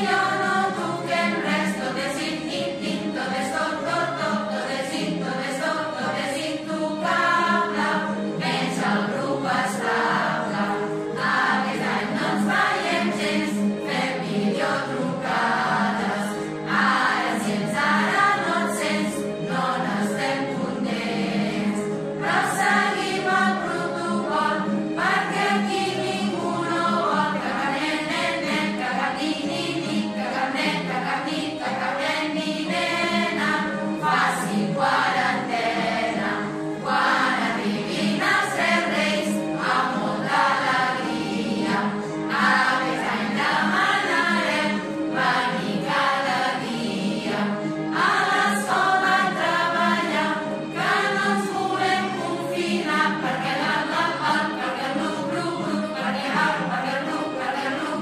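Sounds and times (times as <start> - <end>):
choir singing: 0.0 - 58.0
musical accompaniment: 0.0 - 58.0.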